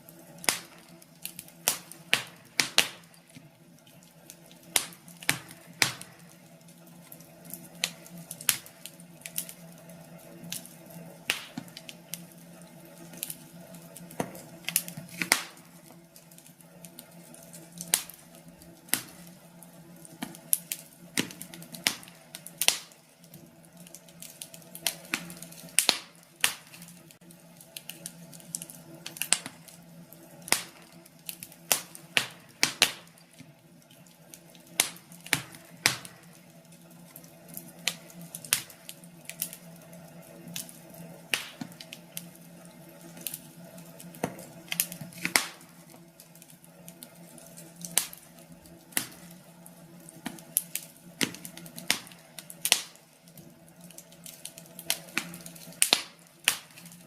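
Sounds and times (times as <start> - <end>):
fire pops: 0.0 - 57.0
wood fire crackling: 0.0 - 57.0.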